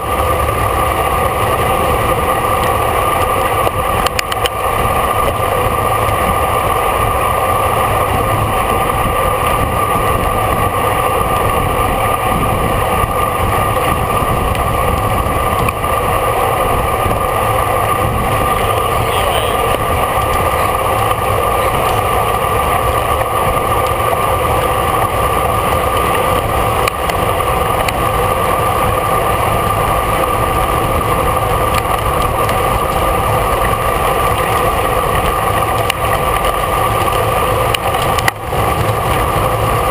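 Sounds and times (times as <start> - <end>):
constant hum: 0.0 - 39.9
wind and road noise: 0.0 - 39.9.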